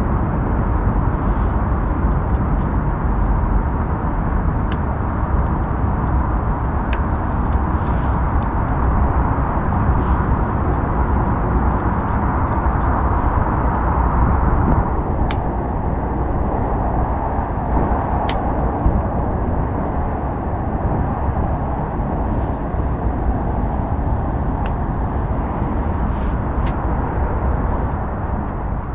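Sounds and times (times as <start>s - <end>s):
loud outdoor background noise: 0.0s - 28.9s.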